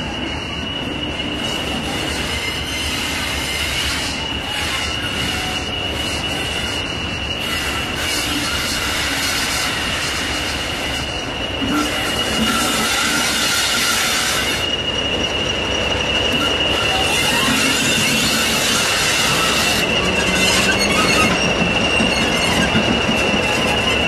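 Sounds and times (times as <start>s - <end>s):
diesel locomotive engine running: 0.0s - 24.0s
steady high whistle: 0.0s - 24.0s.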